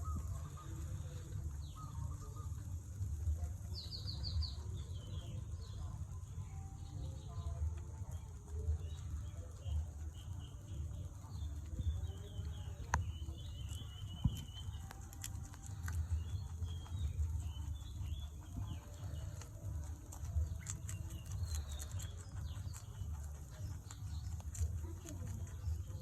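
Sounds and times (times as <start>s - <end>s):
rabbits chewing food: 0.0s - 26.0s
small birds chirping: 0.0s - 26.0s
steady low rumble: 0.0s - 26.0s.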